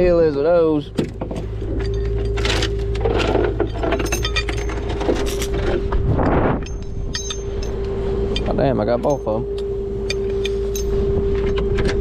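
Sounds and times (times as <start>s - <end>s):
truck engine idling with whine: 0.0s - 12.0s.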